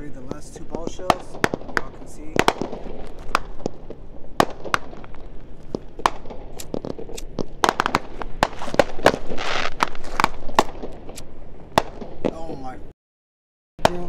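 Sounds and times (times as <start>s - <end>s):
fireworks crackling and popping: 0.0s - 12.8s.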